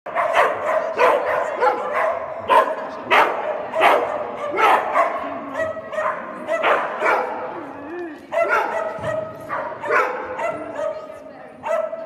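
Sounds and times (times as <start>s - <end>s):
dog barking: 0.1s - 7.5s, 8.3s - 12.0s.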